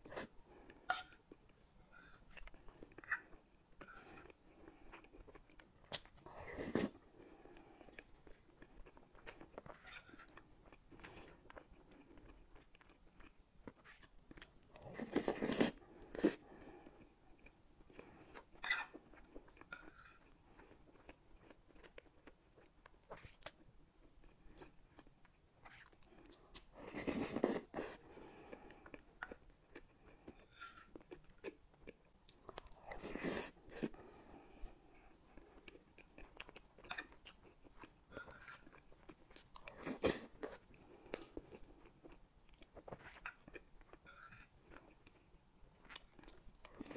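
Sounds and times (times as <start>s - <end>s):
wet chewing and mouth sounds: 0.0s - 46.9s.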